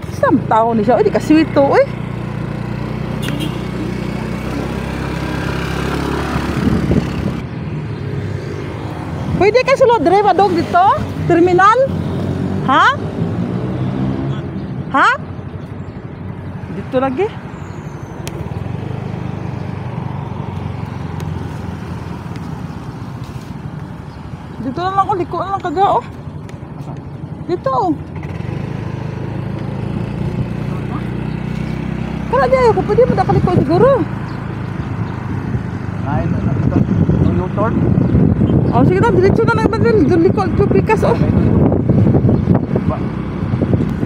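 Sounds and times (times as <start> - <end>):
vehicle engine running: 0.0 - 8.0, 16.1 - 44.0
road noise: 0.0 - 44.0.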